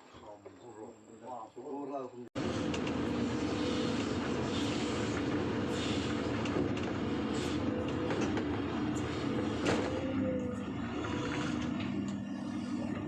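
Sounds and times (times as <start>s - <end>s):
heavy machinery droning hum: 2.4s - 13.0s.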